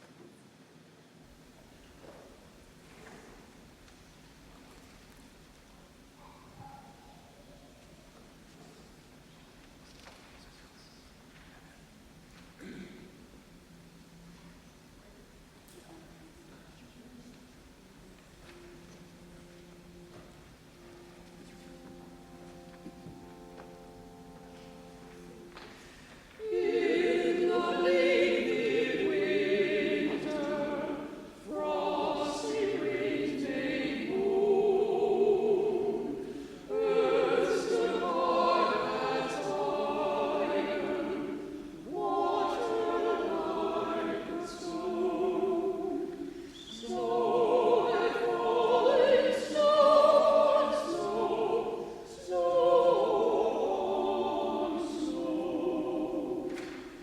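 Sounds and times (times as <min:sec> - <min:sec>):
choir singing sacred music: 0:01.4 - 0:57.0.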